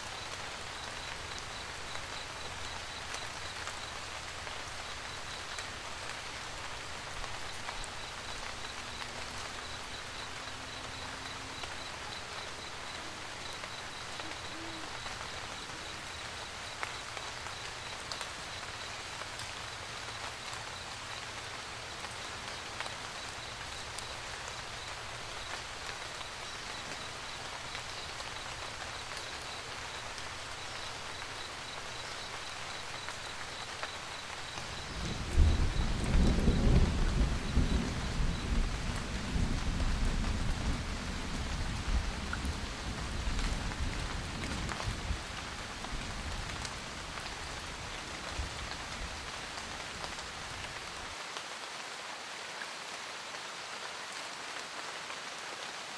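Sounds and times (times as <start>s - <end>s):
louder raindrops: 0.0s - 55.9s
rain pattering on a roof: 0.0s - 55.9s.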